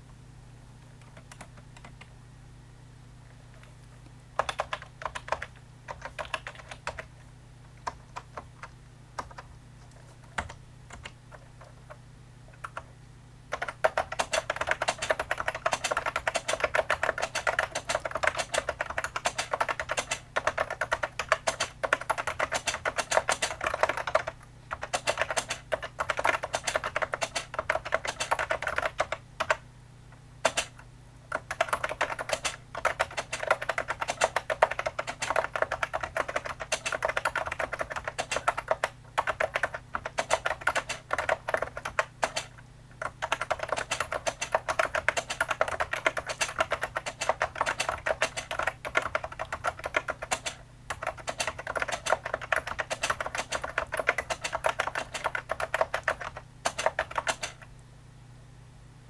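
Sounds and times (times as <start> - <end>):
typing on a keyboard: 1.0 - 2.1, 4.4 - 7.1, 7.8 - 12.0, 12.6 - 12.9, 13.5 - 29.6, 30.4 - 57.7.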